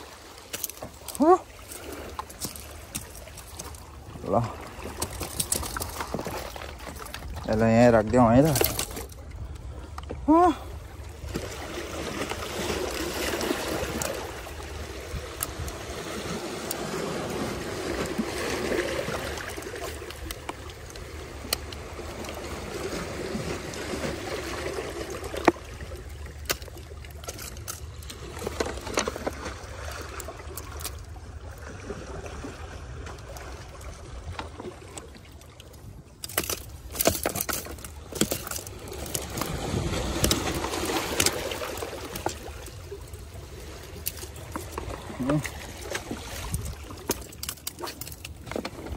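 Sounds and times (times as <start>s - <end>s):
sea water sloshing among rocks: 0.0s - 48.9s.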